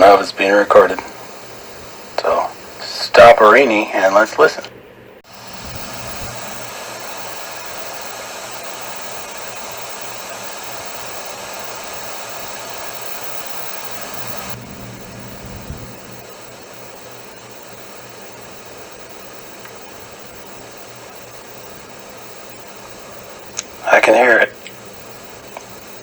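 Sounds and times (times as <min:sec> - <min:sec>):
low electrical hum: 0:00.0 - 0:26.0
microphone hiss: 0:00.0 - 0:26.0.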